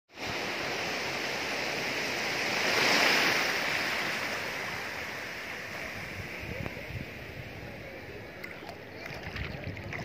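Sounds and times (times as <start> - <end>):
sea waves washing onto shore: 0.1 - 10.0.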